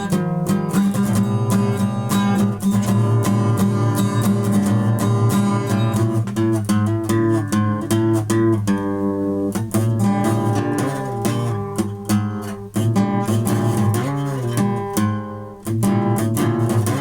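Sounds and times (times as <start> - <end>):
guitar chords strummed: 0.0 - 17.0.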